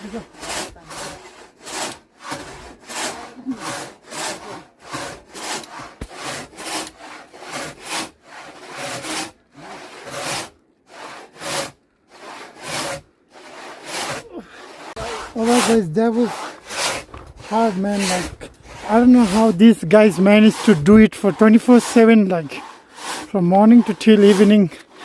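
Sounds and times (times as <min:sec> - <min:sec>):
hand saw cutting timber: 0:00.0 - 0:25.0.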